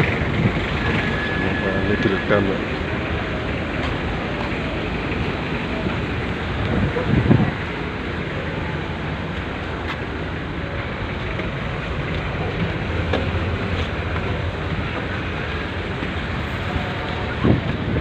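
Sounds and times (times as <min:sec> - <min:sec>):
ship rumble and rushing: 0:00.0 - 0:18.0.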